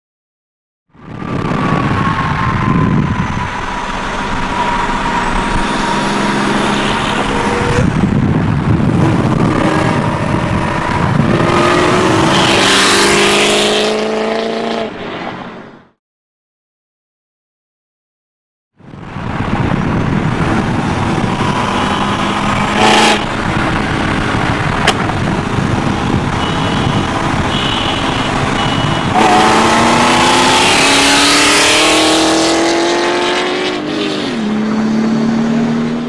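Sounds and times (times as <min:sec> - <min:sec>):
car engine at full throttle: 0:00.9 - 0:16.0, 0:18.8 - 0:36.0
wind and road noise: 0:00.9 - 0:16.0, 0:18.7 - 0:36.0.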